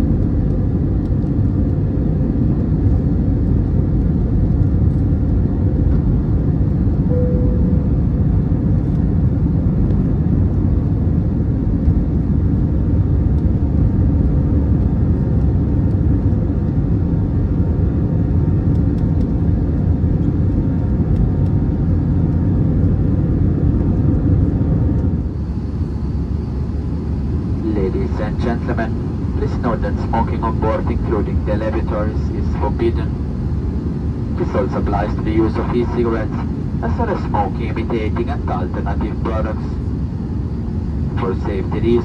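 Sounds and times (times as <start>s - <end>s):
airplane cabin engine rumble: 0.0s - 42.0s.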